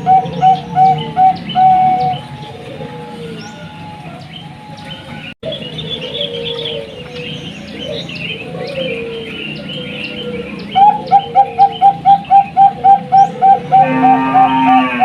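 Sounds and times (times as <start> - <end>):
small birds chirping: 0.0 - 13.8
dove cooing: 0.0 - 15.0.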